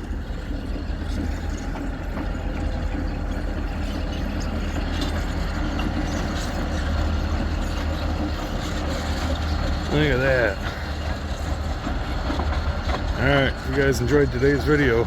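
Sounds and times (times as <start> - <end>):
diesel locomotive engines rumbling: 0.0 - 15.0.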